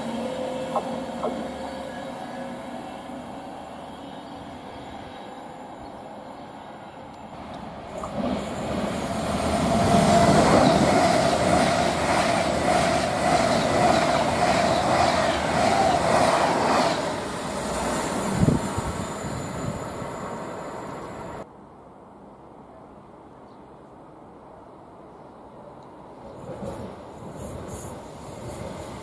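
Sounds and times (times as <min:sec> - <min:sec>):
train passing with high whine: 0:00.0 - 0:21.5, 0:24.3 - 0:29.0.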